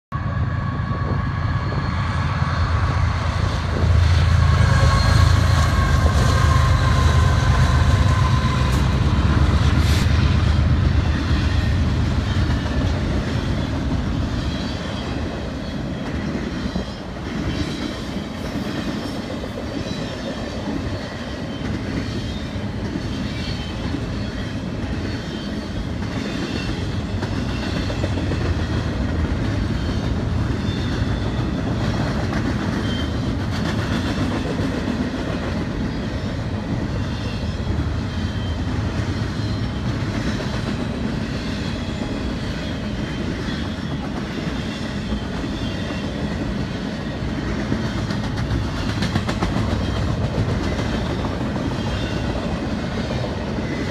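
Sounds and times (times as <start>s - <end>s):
diesel locomotive engines rumbling: 0.1s - 53.9s
freight cars rolling on rails: 1.1s - 53.9s.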